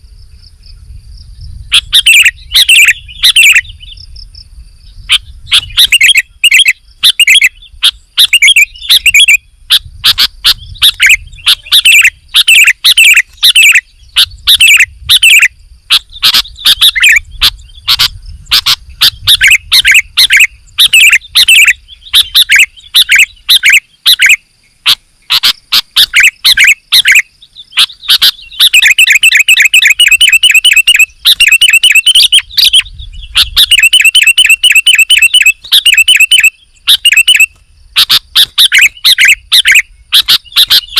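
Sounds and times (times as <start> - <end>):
bulbul singing: 0.1 - 40.9.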